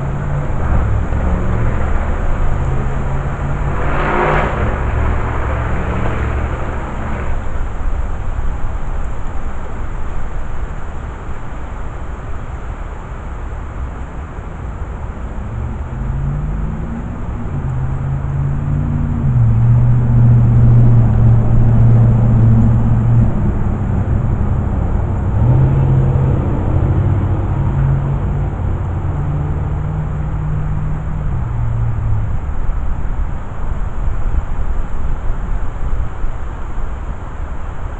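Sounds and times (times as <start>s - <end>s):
steady low rumble: 0.0s - 37.9s
vehicle engine running: 0.0s - 37.9s.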